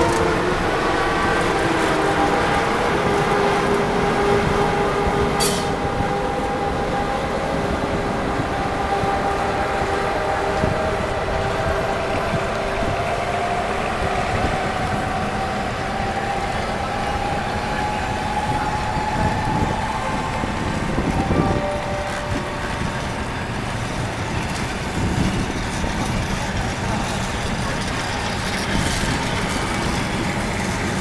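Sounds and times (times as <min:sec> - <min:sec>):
electric locomotive rumble and whine: 0:00.0 - 0:31.0.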